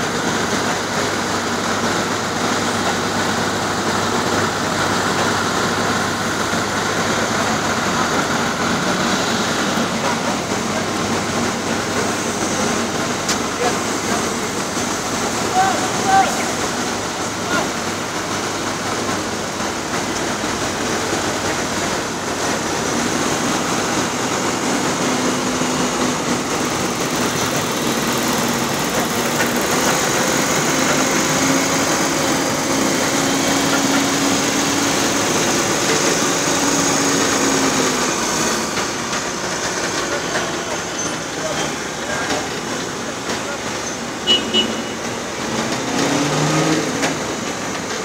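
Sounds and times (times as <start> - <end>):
truck engines humming: 0.0 - 48.0.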